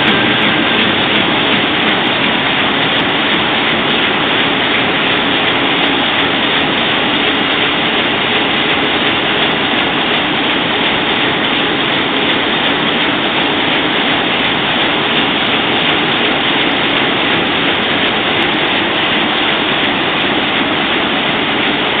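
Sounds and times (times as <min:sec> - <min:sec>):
printing press running: 0:00.0 - 0:22.0.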